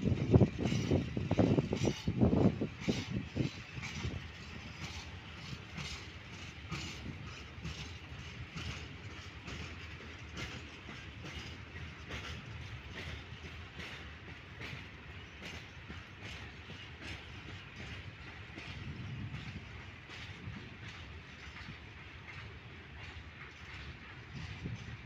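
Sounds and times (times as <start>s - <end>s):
train wheels clacking over rail joints: 0.0s - 25.0s.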